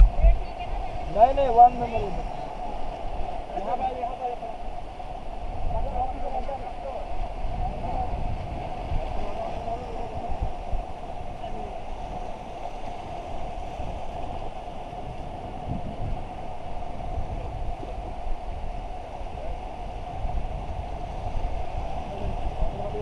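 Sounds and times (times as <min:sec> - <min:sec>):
fast river water rushing: 0:00.0 - 0:23.0
wind buffeting microphone: 0:00.0 - 0:23.0.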